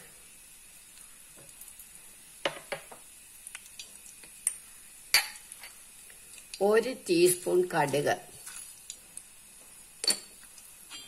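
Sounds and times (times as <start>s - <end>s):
nuts sizzling in a pan: 0.0s - 11.0s.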